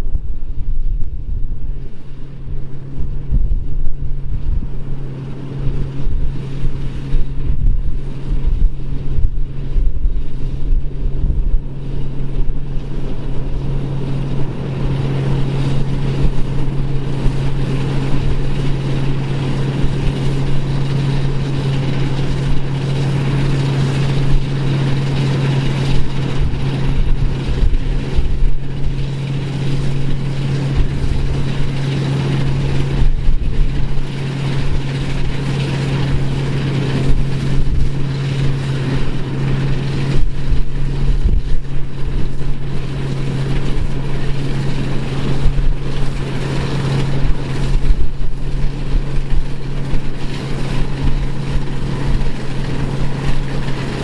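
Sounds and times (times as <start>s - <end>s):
farm machine engine running: 0.0s - 54.0s
higher mechanical noise: 0.0s - 54.0s
wind buffeting microphone: 0.0s - 54.0s.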